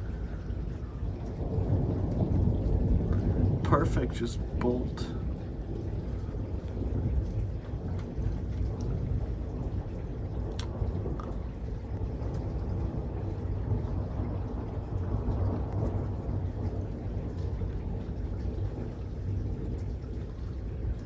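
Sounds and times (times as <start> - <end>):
thunder rumbling: 0.0 - 21.0.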